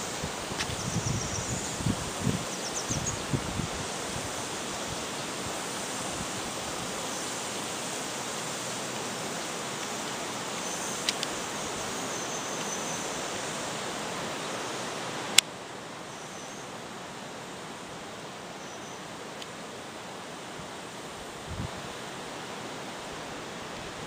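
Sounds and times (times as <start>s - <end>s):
river running over rocks: 0.0s - 24.0s.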